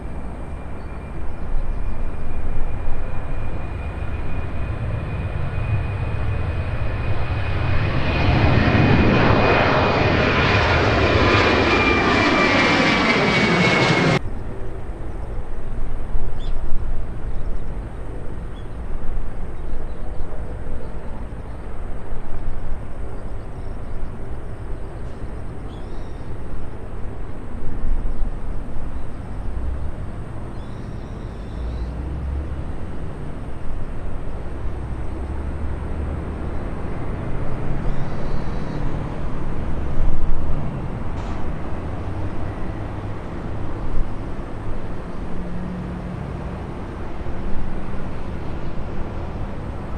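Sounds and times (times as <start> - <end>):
distant jet aircraft noise: 0.0 - 49.9.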